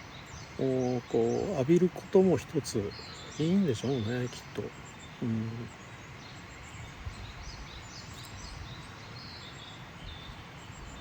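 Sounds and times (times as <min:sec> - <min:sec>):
faint bird chirps: 0:00.0 - 0:11.0
outdoor background noise: 0:00.0 - 0:11.0.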